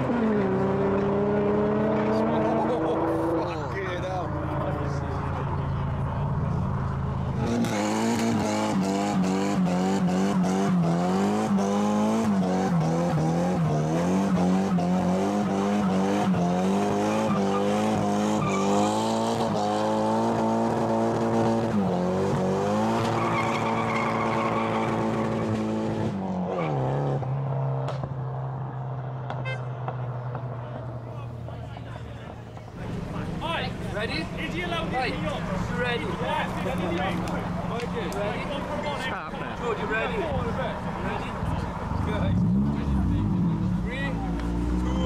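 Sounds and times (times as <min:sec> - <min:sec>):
car engine revving: 0:00.0 - 0:31.1, 0:32.8 - 0:45.0.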